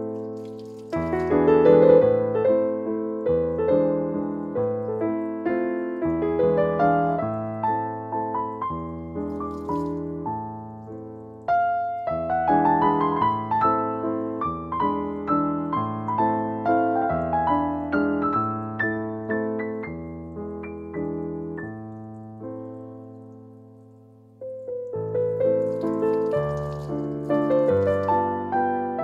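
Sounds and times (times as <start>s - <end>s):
gentle solo piano music: 0.0s - 29.0s.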